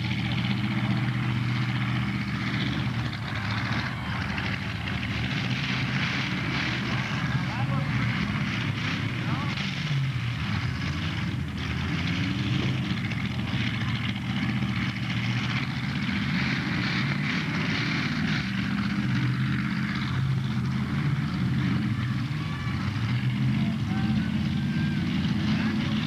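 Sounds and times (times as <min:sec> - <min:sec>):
car engines running: 0:00.0 - 0:26.0.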